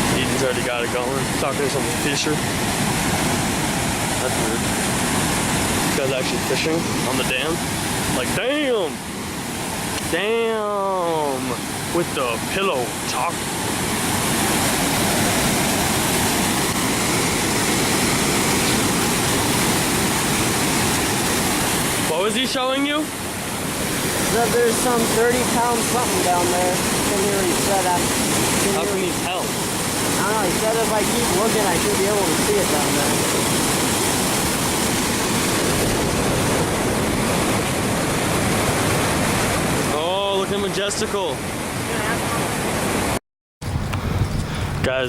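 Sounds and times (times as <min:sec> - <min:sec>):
water roaring over a dam: 0:00.0 - 0:43.2.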